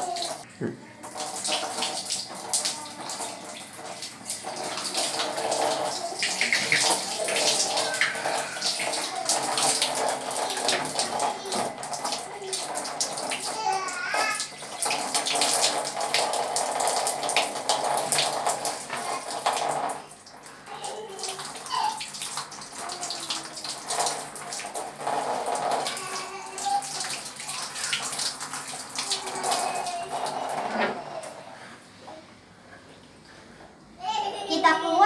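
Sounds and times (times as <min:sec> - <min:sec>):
water running from tap: 0:00.0 - 0:00.4, 0:01.0 - 0:32.2.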